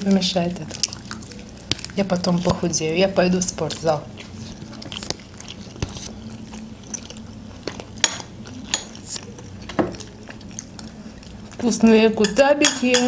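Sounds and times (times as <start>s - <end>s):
chewing flatbread: 0.0s - 12.4s.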